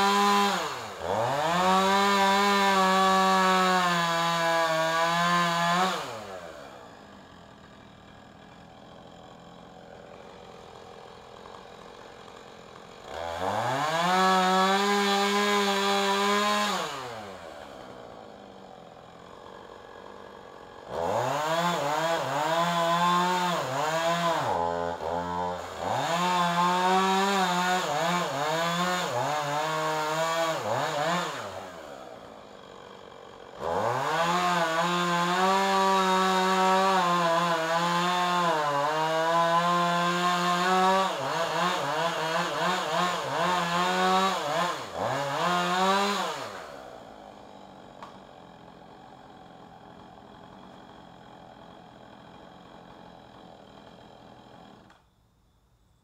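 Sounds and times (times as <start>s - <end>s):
chainsaw revving and cutting wood: 0.0s - 55.2s.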